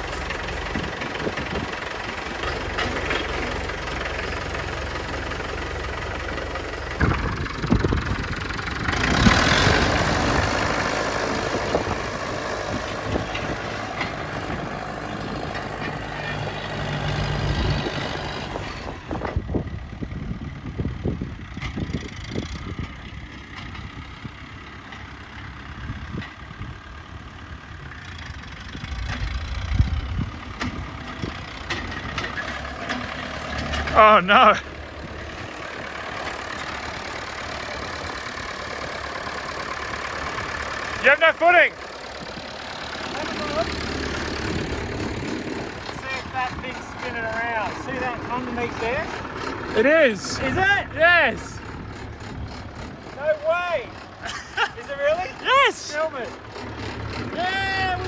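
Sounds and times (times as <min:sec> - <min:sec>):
engine knocks: 0:00.0 - 0:58.0
tractor engine running: 0:00.0 - 0:58.0.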